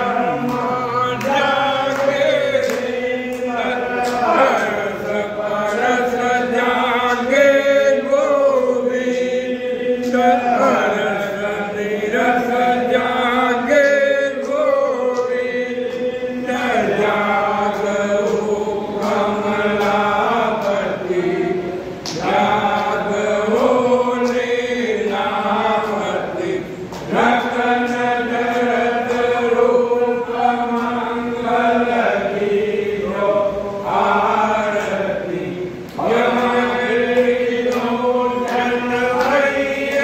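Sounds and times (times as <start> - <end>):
group chanting melodically: 0.0 - 40.0.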